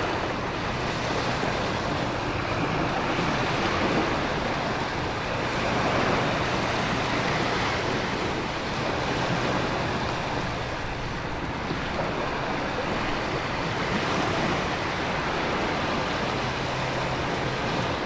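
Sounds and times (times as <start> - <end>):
surf rushing: 0.0 - 18.0
wind: 0.0 - 18.0.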